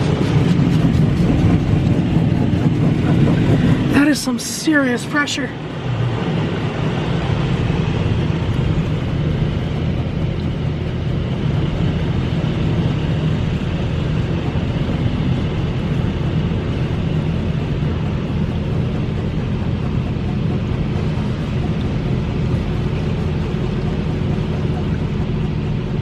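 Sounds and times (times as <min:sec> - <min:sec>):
high-pressure water jets spraying car: 0:00.0 - 0:26.0
low rumble: 0:00.0 - 0:26.0.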